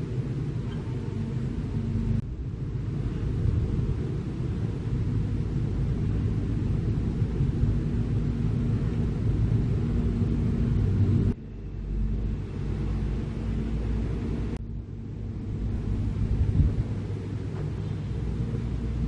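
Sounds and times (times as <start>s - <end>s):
heavy diesel machinery rumbling: 0.0s - 19.0s.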